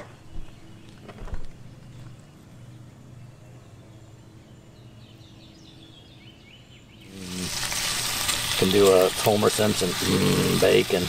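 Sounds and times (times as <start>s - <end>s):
faint birdsong: 0.0s - 11.0s
steady low hum: 0.0s - 11.0s.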